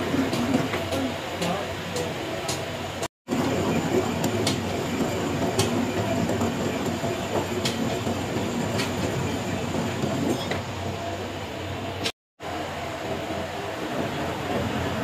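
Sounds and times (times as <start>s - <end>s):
workshop machinery running: 0.0s - 15.0s.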